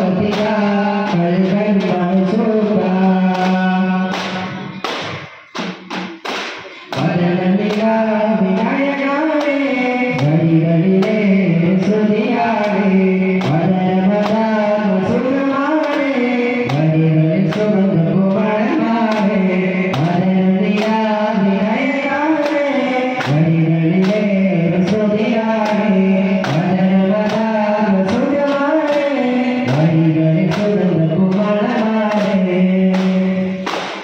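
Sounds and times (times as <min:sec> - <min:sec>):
person singing: 0:00.0 - 0:34.0
steady percussive beat: 0:00.0 - 0:34.0.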